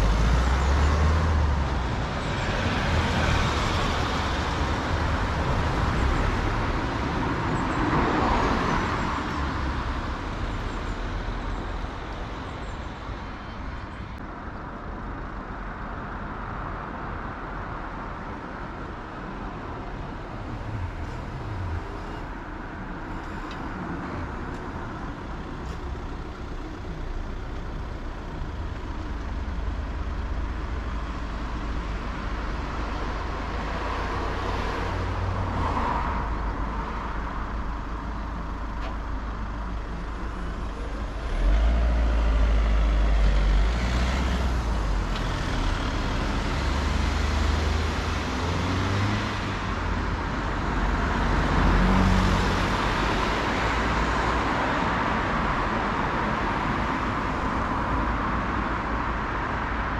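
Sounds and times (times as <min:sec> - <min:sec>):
vehicle engines running: 0:00.0 - 0:16.6, 0:17.5 - 0:59.9
cars passing: 0:00.0 - 0:59.9.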